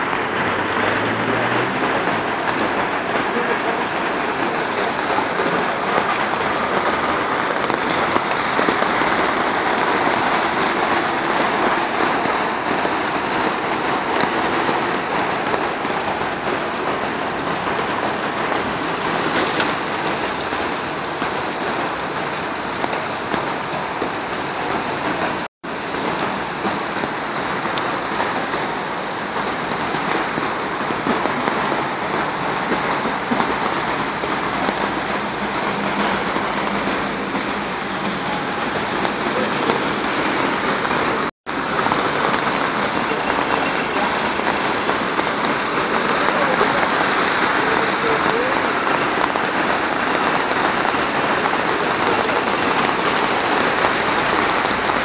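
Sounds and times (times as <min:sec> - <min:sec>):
heavy rain rushing: 0:00.0 - 0:55.0.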